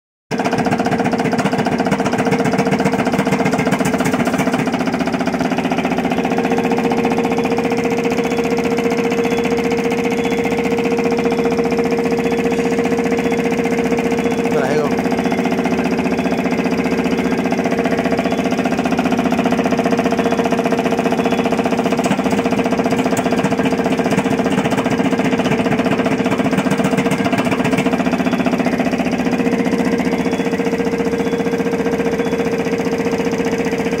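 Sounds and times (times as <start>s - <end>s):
machine humming and pulsing: 0.3s - 34.0s.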